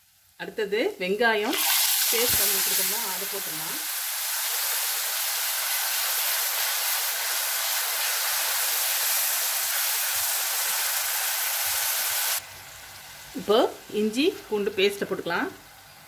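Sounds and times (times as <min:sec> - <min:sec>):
onion paste sizzling in oil: 0:00.0 - 0:16.0.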